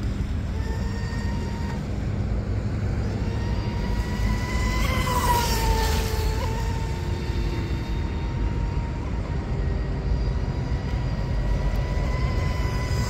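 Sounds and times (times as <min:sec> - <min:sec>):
electric boat motor whining: 0:00.0 - 0:13.0.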